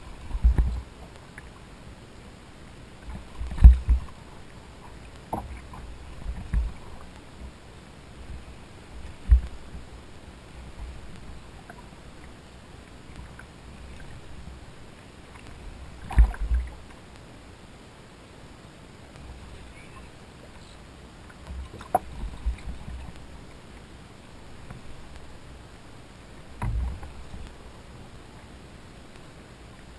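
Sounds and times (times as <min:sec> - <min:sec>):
water washing against kayak hull: 0:00.0 - 0:17.2, 0:19.0 - 0:29.9.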